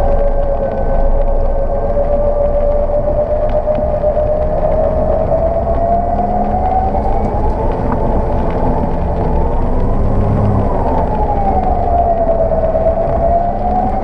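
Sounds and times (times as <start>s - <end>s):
engine running rumble: 0.0s - 14.0s.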